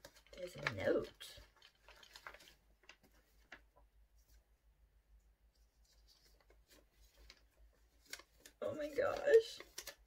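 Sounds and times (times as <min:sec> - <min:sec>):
paper note rustling: 0:00.0 - 0:04.5, 0:05.5 - 0:10.0
soft paper crackles: 0:00.0 - 0:10.0.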